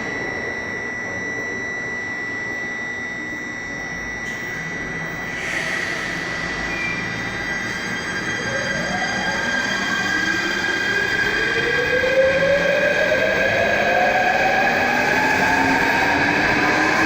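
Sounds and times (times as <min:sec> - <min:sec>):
electric train whine and hum: 0:00.0 - 0:17.0.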